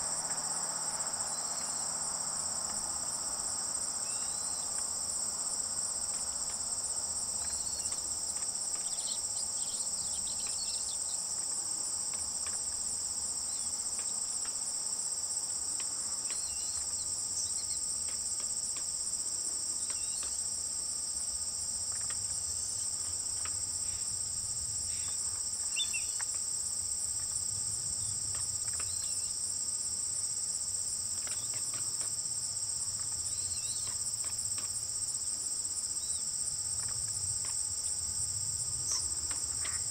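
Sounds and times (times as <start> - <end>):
insect trilling chorus: 0.0 - 19.0, 19.7 - 20.5, 21.2 - 29.5, 32.9 - 39.9.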